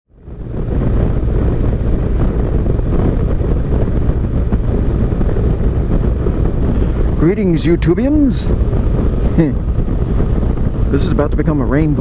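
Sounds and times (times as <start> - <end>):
motorcycle engine running: 0.1 - 12.0
wind rushing over microphone: 0.1 - 12.0.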